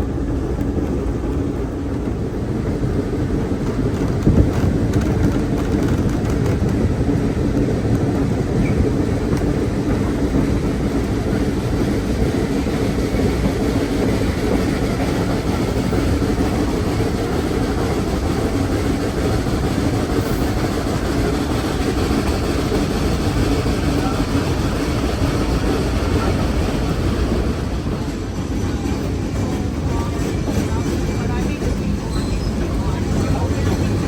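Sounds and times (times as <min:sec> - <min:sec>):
locomotive engine working: 0:00.0 - 0:34.0
train wheels on rails: 0:00.0 - 0:34.0.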